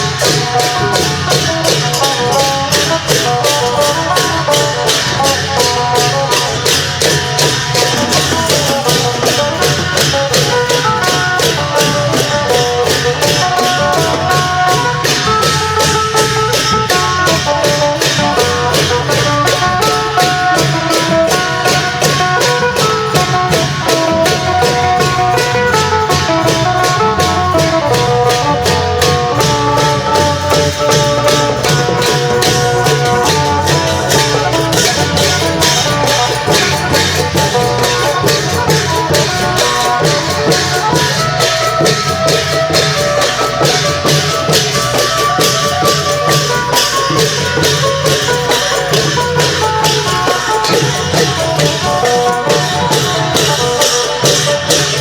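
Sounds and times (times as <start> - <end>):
long drums beating: 0.0 - 55.0
small cymbals: 0.0 - 55.0.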